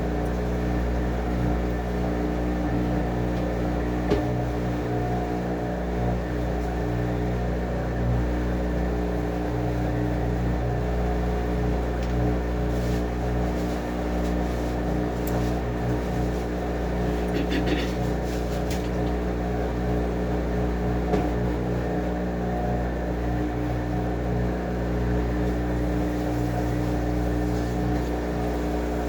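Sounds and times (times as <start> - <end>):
washing machine motor humming: 0.0 - 29.0.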